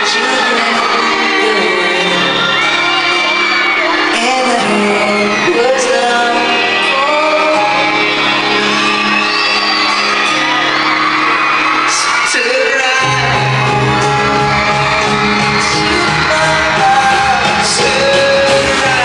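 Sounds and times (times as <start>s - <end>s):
fans shouting and screaming: 0.0s - 19.0s
live pop ballad: 0.0s - 19.0s.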